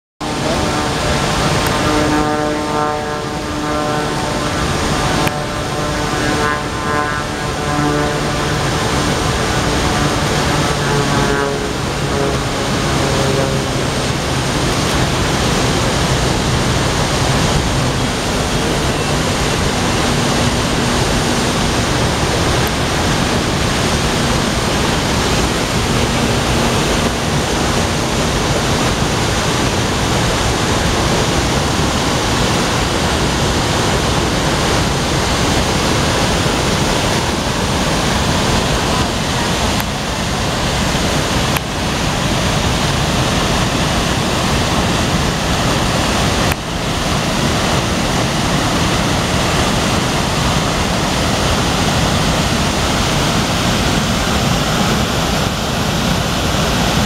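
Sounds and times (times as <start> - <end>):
river rushing over rocks: 0.2 - 2.6, 11.8 - 57.0.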